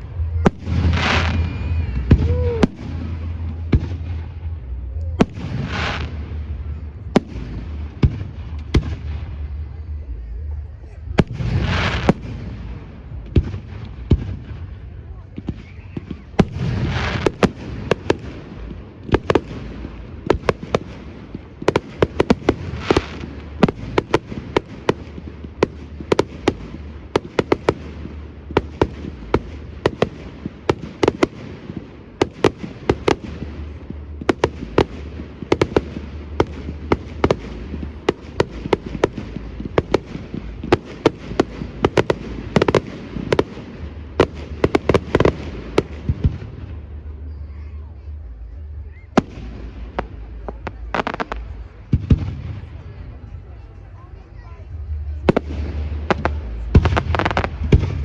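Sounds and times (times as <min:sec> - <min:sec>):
fireworks bangs and crackles: 0:00.0 - 0:58.0
low rumble: 0:00.0 - 0:58.0.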